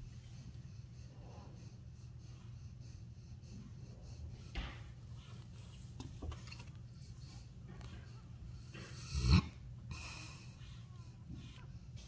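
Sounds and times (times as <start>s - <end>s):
puppies breathing and snuffling: 0.0s - 12.0s.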